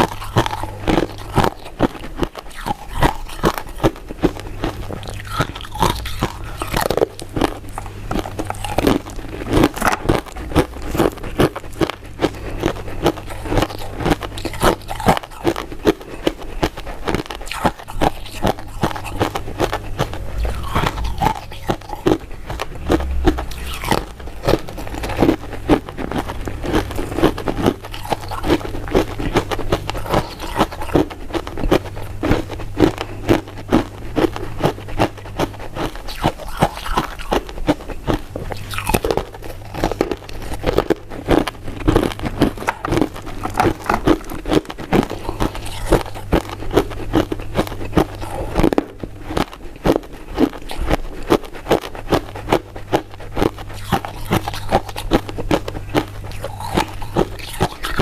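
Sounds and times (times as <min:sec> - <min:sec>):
chewing crunchy mint sweets: 0:00.0 - 0:58.0.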